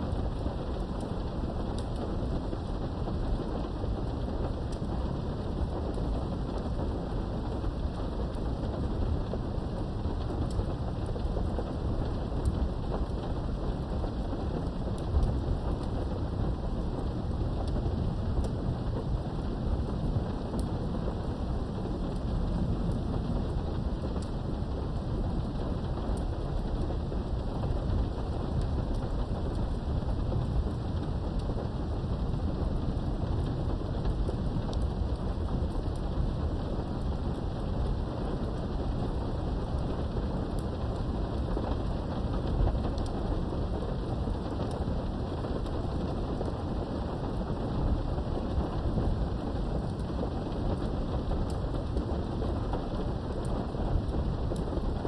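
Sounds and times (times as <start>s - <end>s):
low rumble of thunder: 0.0s - 55.0s
steady rain: 0.0s - 55.0s
raindrop ticks: 0.2s - 3.8s, 9.8s - 55.0s.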